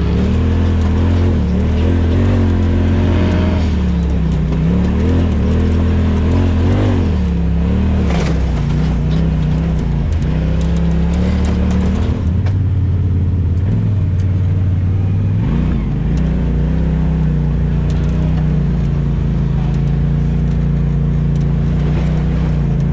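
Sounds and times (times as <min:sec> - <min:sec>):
off-road vehicle engine running: 0:00.0 - 0:22.9.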